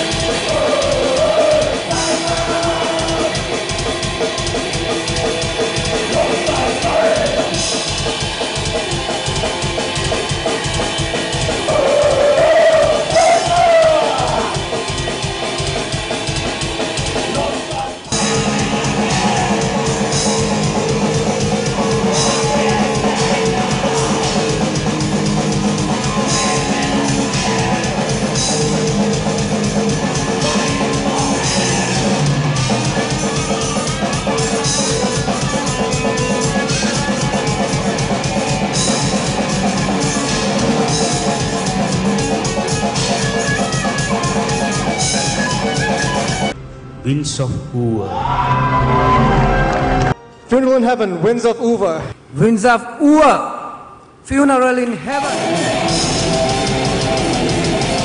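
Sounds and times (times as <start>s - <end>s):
heavy metal music: 0.0s - 52.2s, 54.7s - 58.0s.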